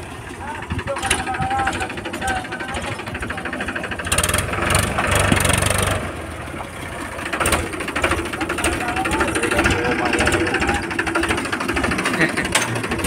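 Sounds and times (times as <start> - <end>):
tractor diesel engine knocking: 0.0 - 13.0.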